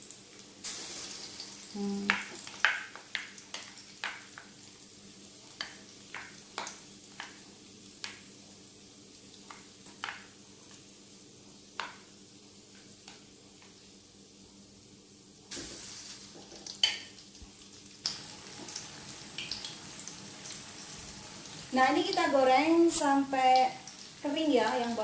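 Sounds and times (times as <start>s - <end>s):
patties sizzling in hot oil: 0.0s - 14.3s, 15.2s - 25.0s.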